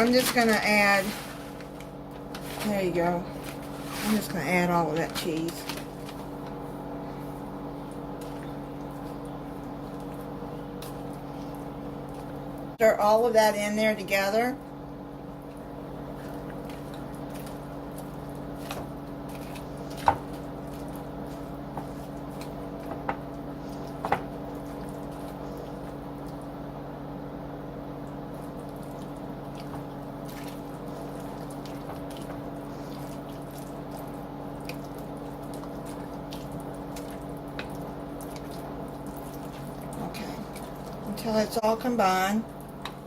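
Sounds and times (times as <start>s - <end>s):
thick mixture squishing: 0.0s - 12.7s, 14.9s - 26.7s, 27.9s - 41.3s
steady low hum: 0.0s - 43.0s.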